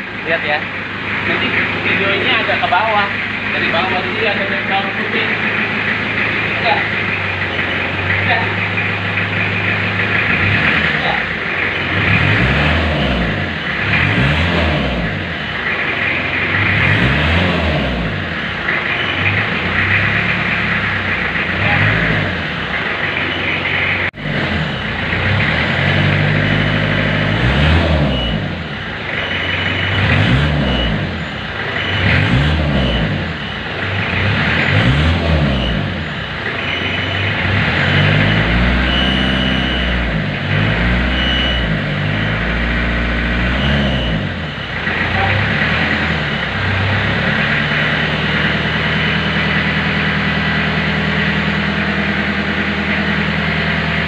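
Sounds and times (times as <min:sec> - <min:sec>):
diesel engine revving and idling: 0:00.0 - 0:54.0.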